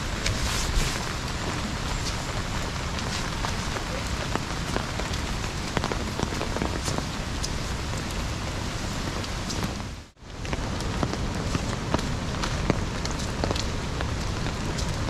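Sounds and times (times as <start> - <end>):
steady rain hiss: 0.0 - 15.0
raindrop ticks: 1.1 - 8.2, 9.1 - 15.0.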